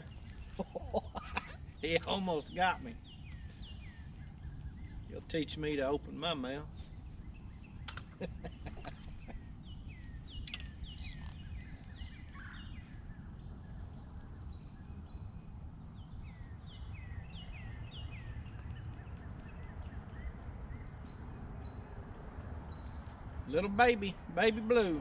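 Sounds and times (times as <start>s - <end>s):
bird chirping: 0.0s - 25.0s
wind rumble on microphone: 0.0s - 25.0s.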